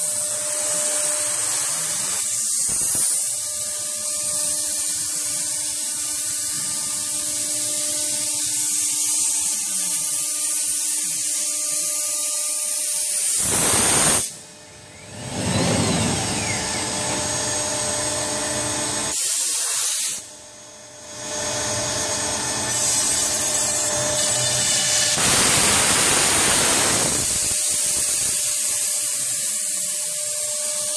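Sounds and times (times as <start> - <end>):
router spindle motor whine: 0.0 - 10.4, 11.0 - 19.2, 20.6 - 27.4.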